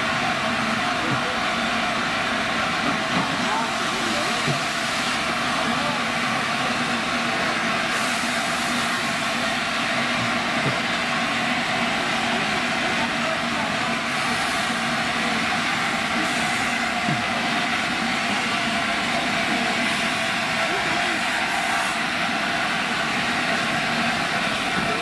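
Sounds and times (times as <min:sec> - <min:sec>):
steady hiss of steam: 0:00.0 - 0:25.0
steam locomotive moving: 0:00.0 - 0:25.0.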